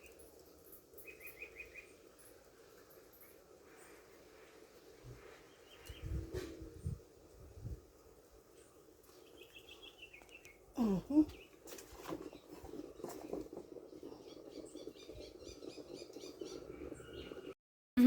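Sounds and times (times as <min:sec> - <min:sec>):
birds chirping: 0:00.0 - 0:04.2, 0:05.2 - 0:07.0, 0:08.4 - 0:17.6.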